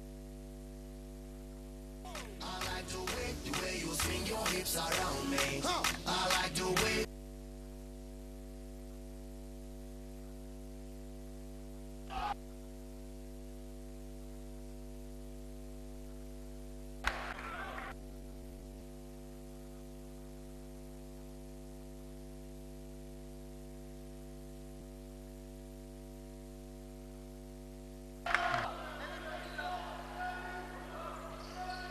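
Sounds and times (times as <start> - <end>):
electrical mains hum: 0.0 - 31.9.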